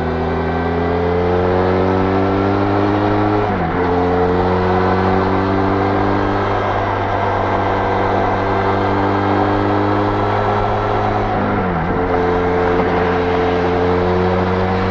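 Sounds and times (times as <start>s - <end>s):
motorcycle engine pulling hard: 0.0s - 14.9s.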